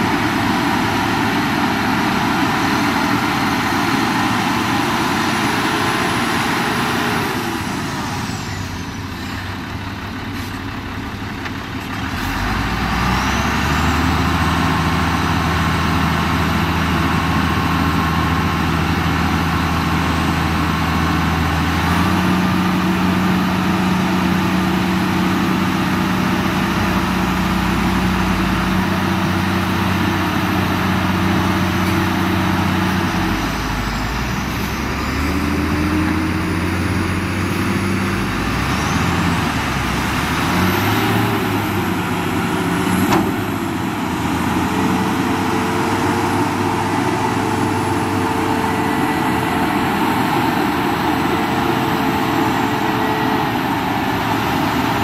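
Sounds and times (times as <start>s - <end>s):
deep steady engine note: 0.0s - 55.0s
heavy diesel machinery running: 0.0s - 55.0s.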